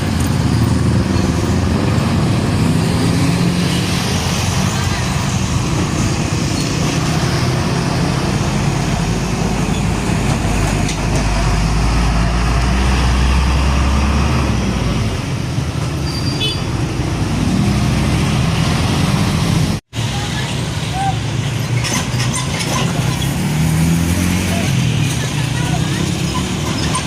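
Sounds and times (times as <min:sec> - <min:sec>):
large truck rumbling past: 0:00.0 - 0:27.0
road traffic: 0:00.0 - 0:27.0.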